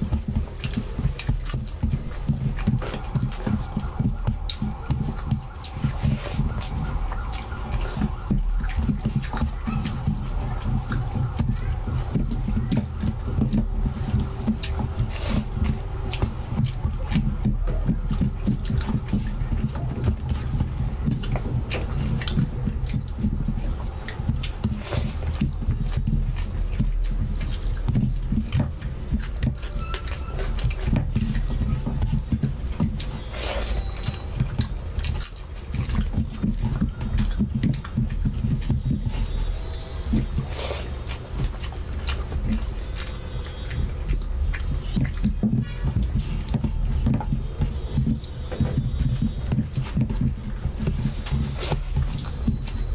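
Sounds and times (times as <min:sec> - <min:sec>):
chewing and lip-smacking: 0:00.0 - 0:52.9
fingers squelching in food: 0:00.0 - 0:52.9.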